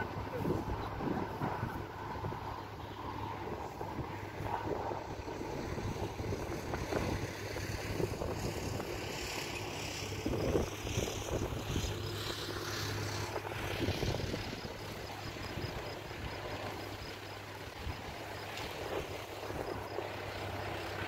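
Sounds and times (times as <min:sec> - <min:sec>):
distant tractor engine running: 0:00.0 - 0:21.0
wind buffeting microphone: 0:00.0 - 0:21.0.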